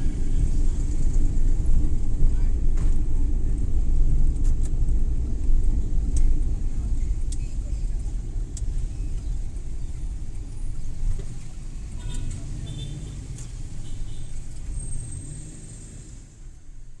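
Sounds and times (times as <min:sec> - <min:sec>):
van engine and road rumble: 0:00.0 - 0:17.0.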